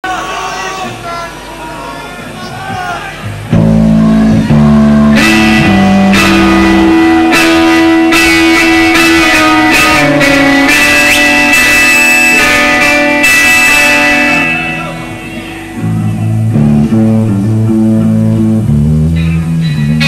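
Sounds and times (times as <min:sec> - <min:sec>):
distorted electric guitar: 0:03.2 - 0:20.0.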